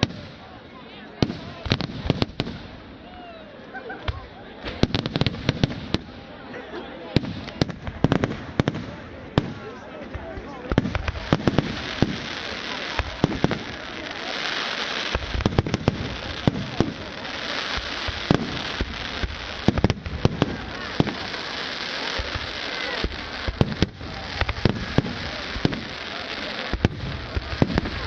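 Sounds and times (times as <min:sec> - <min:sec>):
crackle and hiss of fireworks: 0:00.0 - 0:28.0.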